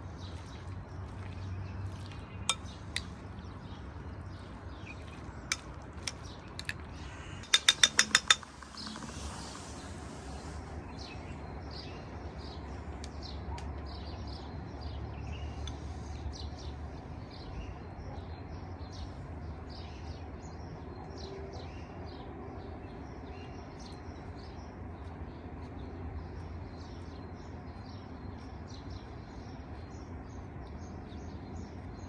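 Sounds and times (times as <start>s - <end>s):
small birds chirping: 0.0s - 21.9s, 22.8s - 32.0s.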